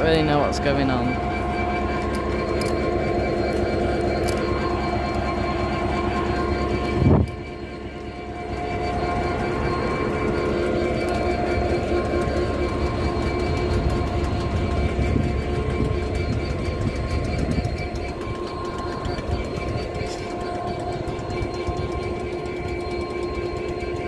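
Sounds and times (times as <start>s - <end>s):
diesel locomotive engine humming: 0.0s - 24.0s.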